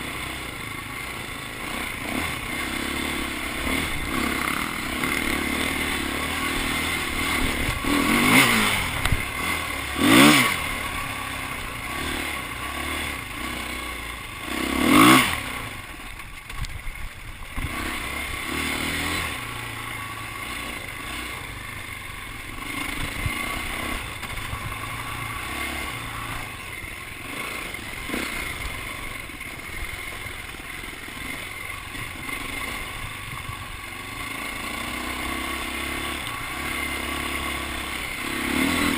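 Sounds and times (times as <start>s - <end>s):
dirt bikes passing close: 0.0s - 38.9s
distant dirt bike engines: 0.0s - 38.9s.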